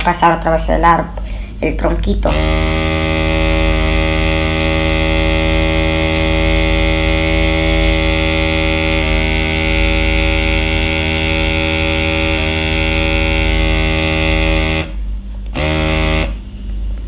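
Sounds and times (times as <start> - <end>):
airbrush pump buzzing: 2.2 - 16.5.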